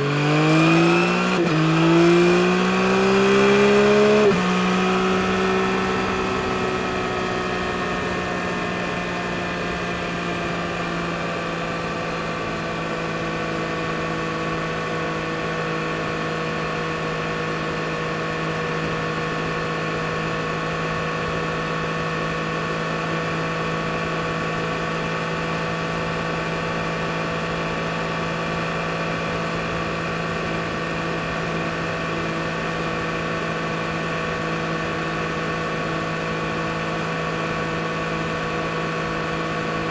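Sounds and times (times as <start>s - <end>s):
motorcycle engine humming: 0.0s - 39.9s.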